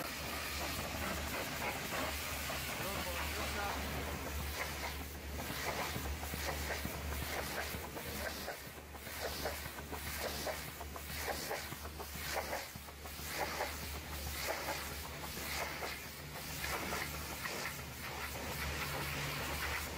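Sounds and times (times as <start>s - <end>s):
pump motor hum: 0.0s - 19.9s.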